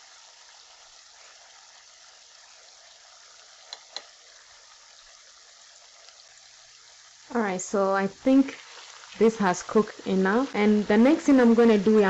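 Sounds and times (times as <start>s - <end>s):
stew sizzling in a pot: 0.0s - 12.0s.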